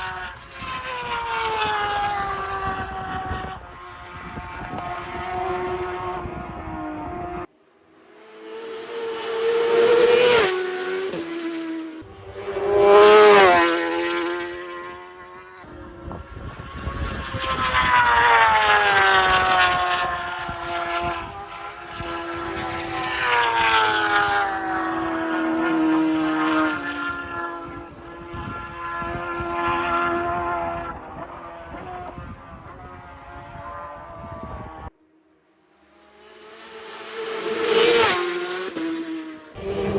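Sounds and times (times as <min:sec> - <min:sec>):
racing motorcycles passing at speed: 0:00.0 - 0:34.9, 0:35.8 - 0:39.9.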